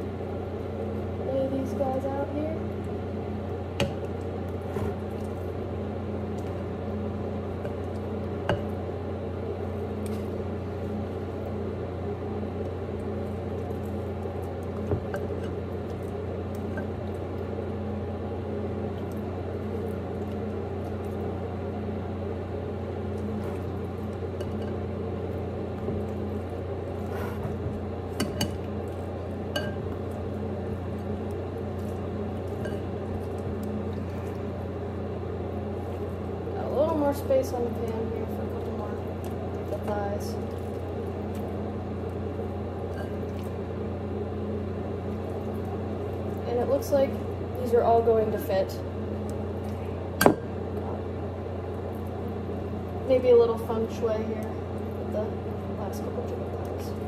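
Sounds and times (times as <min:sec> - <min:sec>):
oven fan hum: 0:00.0 - 0:57.0.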